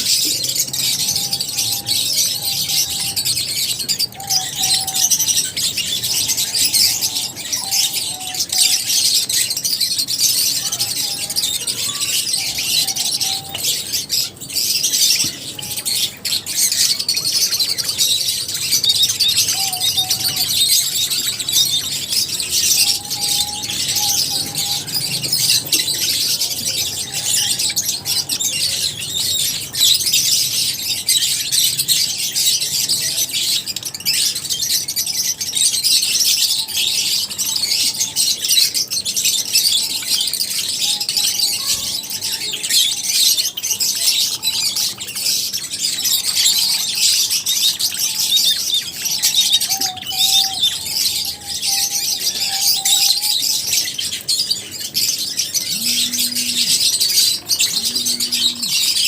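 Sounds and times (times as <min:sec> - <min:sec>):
lovebirds chirping: 0:00.0 - 0:59.0.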